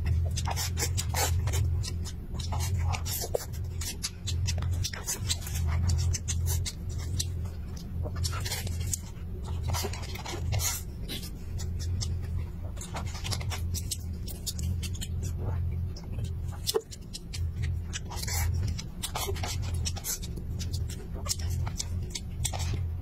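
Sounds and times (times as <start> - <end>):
low hum: 0.0 - 23.0
wet chewing and lip-smacking: 0.0 - 23.0.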